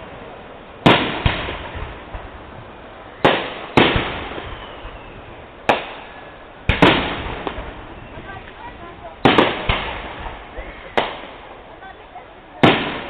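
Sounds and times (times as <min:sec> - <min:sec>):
firework bangs with echo: 0:00.8 - 0:02.6, 0:03.2 - 0:11.6, 0:12.6 - 0:13.0.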